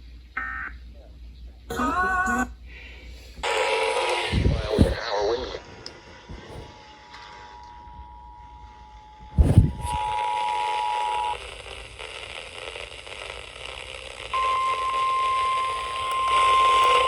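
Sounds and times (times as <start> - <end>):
radio static hiss: 0.4 - 17.0.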